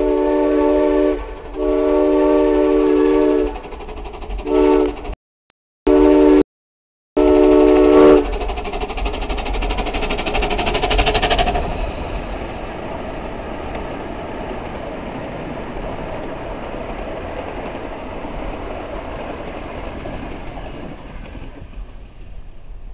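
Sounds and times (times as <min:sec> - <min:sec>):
miniature steam locomotive running: 0:00.0 - 0:05.2, 0:07.2 - 0:21.5.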